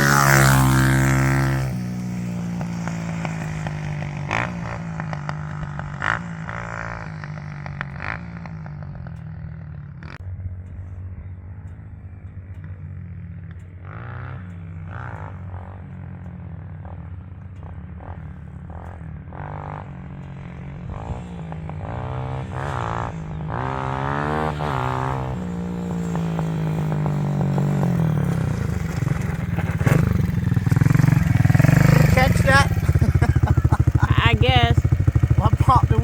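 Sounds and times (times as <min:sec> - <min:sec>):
motorbike engine revving: 0:00.0 - 0:36.0.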